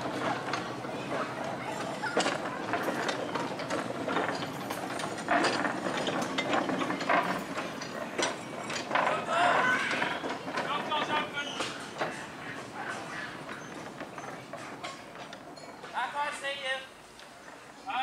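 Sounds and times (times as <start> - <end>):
ride-on train coaches rolling: 0.0 - 18.0
wheels clicking and clanking: 0.0 - 18.0.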